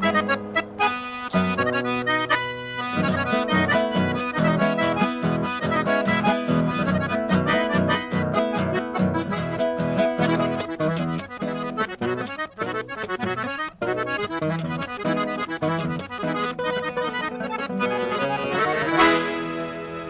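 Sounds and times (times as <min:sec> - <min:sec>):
accordion playing folk tune: 0:00.0 - 0:20.0.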